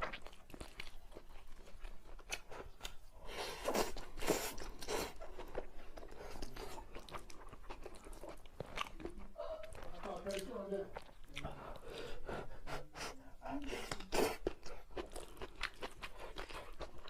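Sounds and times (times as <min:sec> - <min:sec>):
chewing crunchy food: 0:00.0 - 0:12.2, 0:13.6 - 0:17.0.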